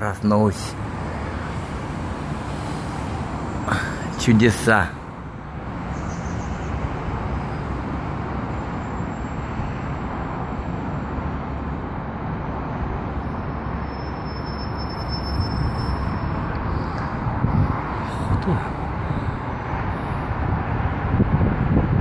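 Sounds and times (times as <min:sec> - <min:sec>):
distant city traffic hum: 0:00.0 - 0:22.0.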